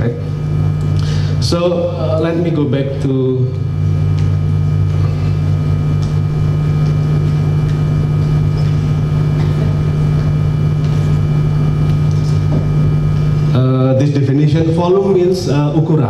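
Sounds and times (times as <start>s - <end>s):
loud low hum: 0.0s - 16.0s.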